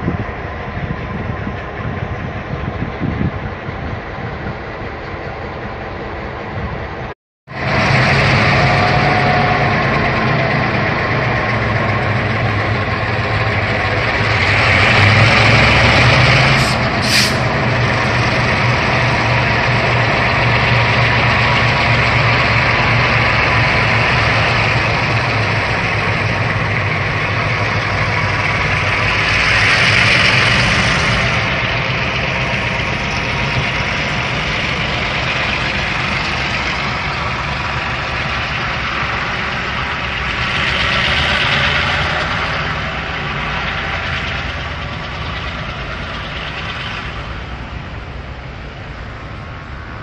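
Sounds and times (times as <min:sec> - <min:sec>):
locomotive diesel engine revving: 0:07.5 - 0:50.0.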